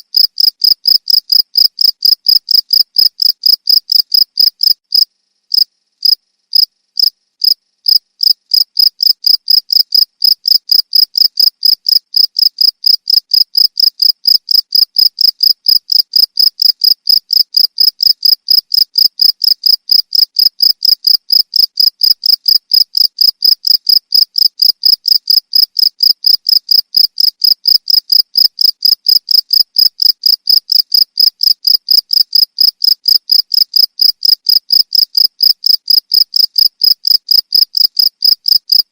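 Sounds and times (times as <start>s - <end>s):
cricket chirping: 0.0s - 38.8s.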